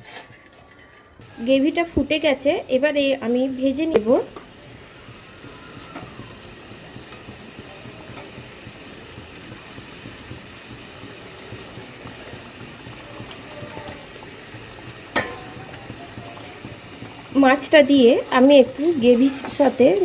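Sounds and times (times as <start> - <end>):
gravy bubbling in a pan: 1.2 - 20.0.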